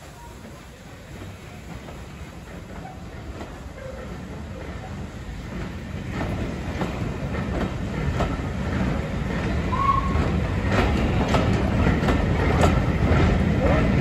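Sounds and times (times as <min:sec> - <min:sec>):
low train rumble: 0:00.0 - 0:14.0
train wheels clicking over rail joints: 0:00.3 - 0:14.0.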